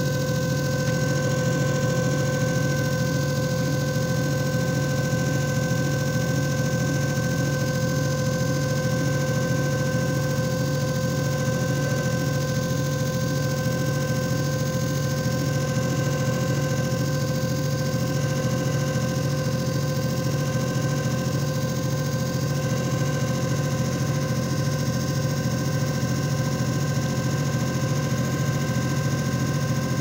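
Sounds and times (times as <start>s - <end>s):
machine motor humming with whine: 0.0s - 30.0s.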